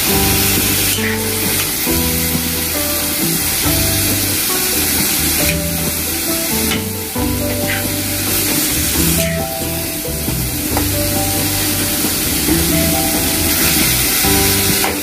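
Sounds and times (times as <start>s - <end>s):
instrumental background music: 0.0s - 15.0s.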